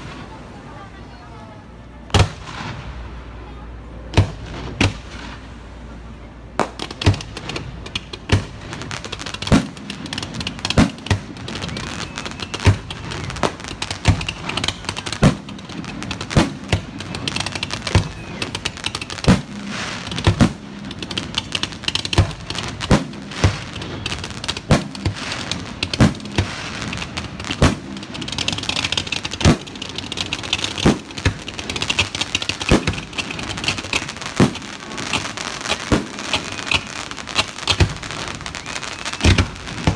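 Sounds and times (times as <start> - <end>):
dense firework crackling: 0.0 - 39.9
firework shells bursting: 6.6 - 39.9.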